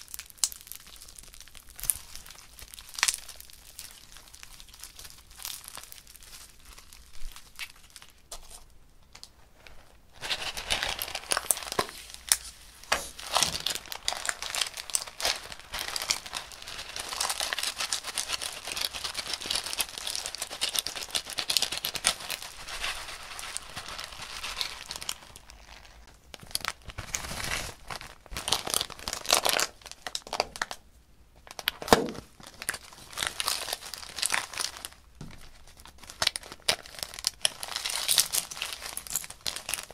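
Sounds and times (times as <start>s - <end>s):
plastic bags crinkling: 0.0s - 30.8s, 31.4s - 39.9s.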